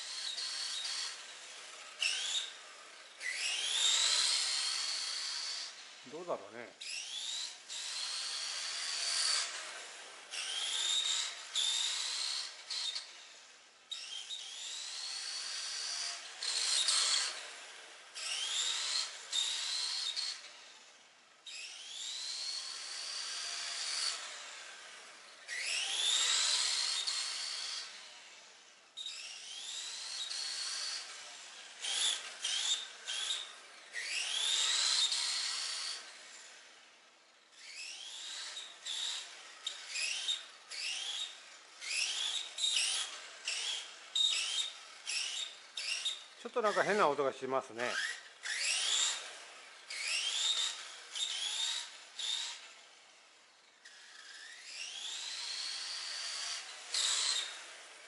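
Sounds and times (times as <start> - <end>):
electric motor and gears whining: 0.0 - 58.0.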